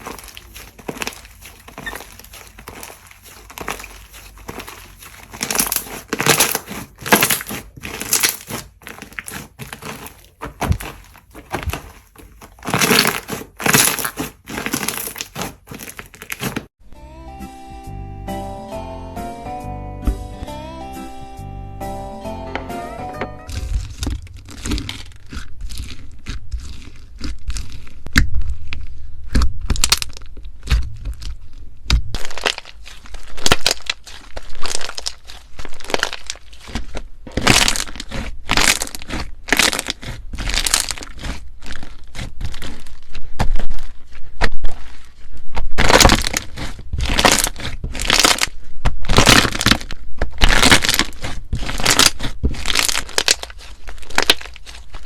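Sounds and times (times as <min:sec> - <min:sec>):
slime crackling and popping: 0:00.0 - 0:16.7, 0:23.5 - 0:55.0.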